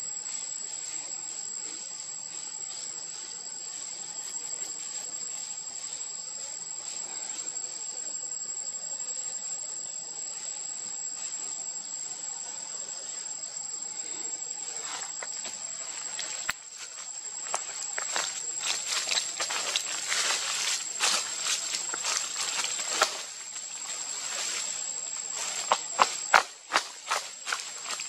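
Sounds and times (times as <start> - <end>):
insects shrilling: 0.0 - 28.0.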